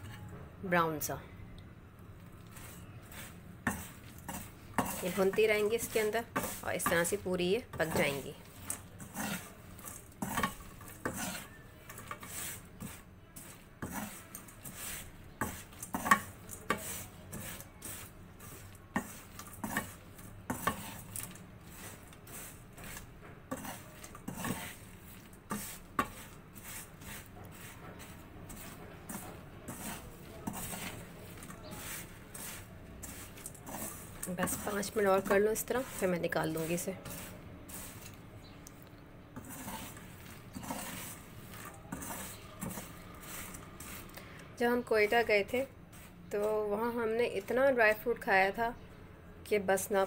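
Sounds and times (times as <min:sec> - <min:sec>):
metal strainer scraping a pan: 0:02.5 - 0:38.2, 0:39.4 - 0:44.1.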